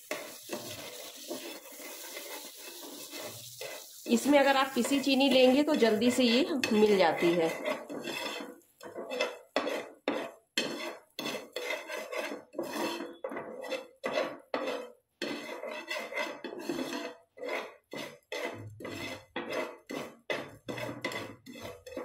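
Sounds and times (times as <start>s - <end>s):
spatula scraping and tapping a pan: 0.0s - 22.0s.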